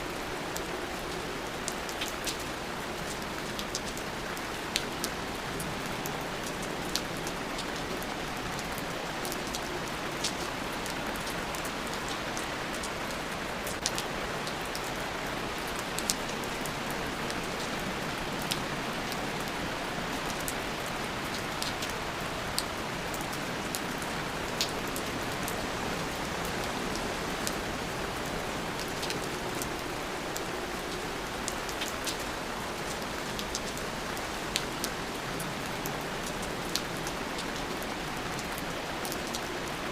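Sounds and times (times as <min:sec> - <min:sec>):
steady rain hiss: 0:00.0 - 0:39.9
raindrops ticking close by: 0:00.2 - 0:39.9.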